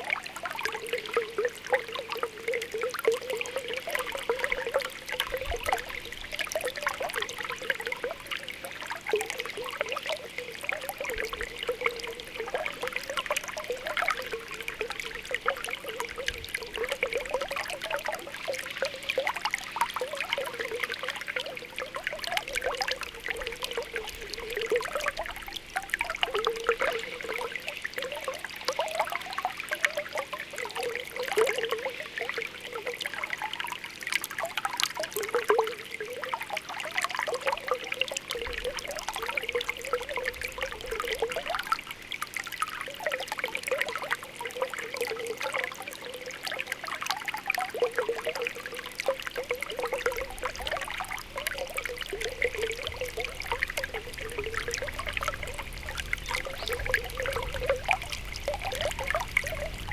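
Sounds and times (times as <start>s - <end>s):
water bubbling: 0.0s - 59.9s
water trickling: 0.0s - 59.9s.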